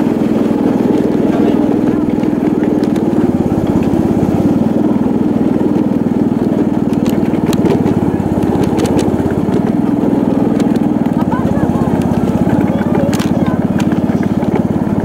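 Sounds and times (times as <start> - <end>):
small locomotive engine running: 0.0 - 15.0.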